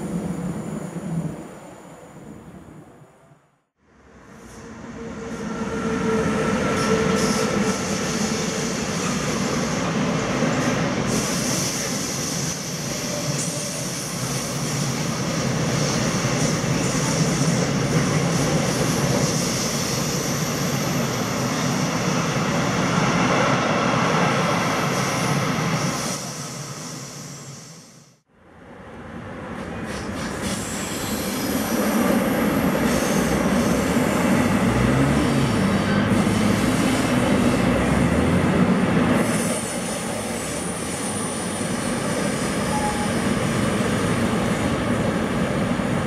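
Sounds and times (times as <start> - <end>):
train wheel and rail noise: 0.0 - 46.0.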